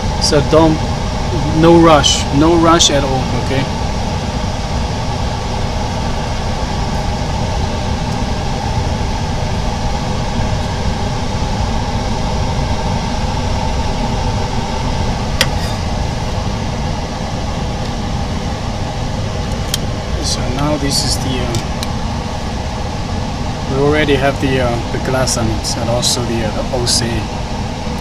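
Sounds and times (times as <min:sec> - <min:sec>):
machinery humming: 0:00.0 - 0:28.0.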